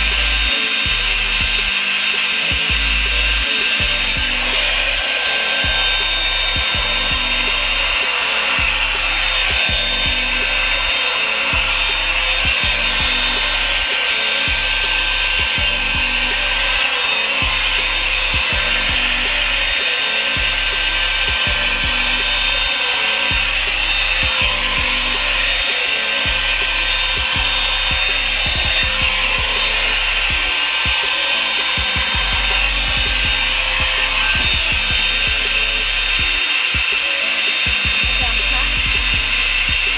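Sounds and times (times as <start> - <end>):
background music with beat: 0.0 - 39.9
blow dryer running: 0.0 - 39.9.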